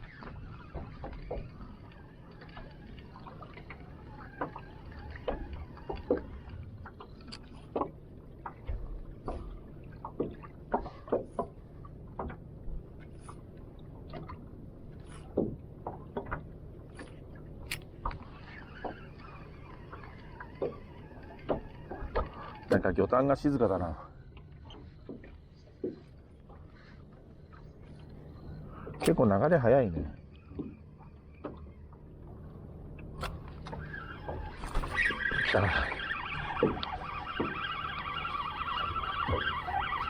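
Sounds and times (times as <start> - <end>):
water lapping against boat hull: 0.0 - 40.0.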